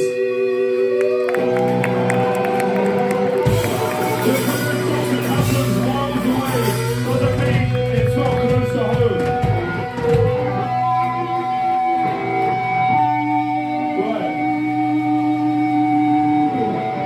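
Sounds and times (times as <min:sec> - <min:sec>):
loud electric guitars and bass: 0:00.0 - 0:17.0.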